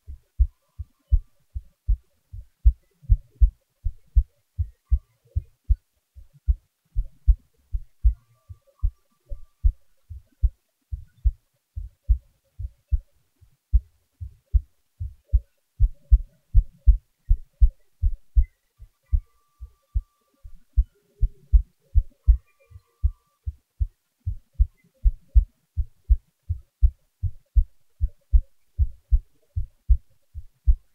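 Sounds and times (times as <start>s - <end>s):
heartbeat thumps: 0.0s - 30.9s.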